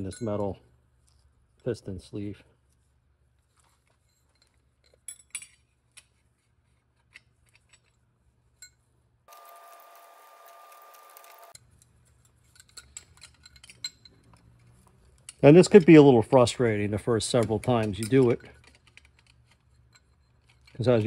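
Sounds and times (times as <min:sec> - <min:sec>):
metal parts clicking and clinking: 0:03.4 - 0:21.0.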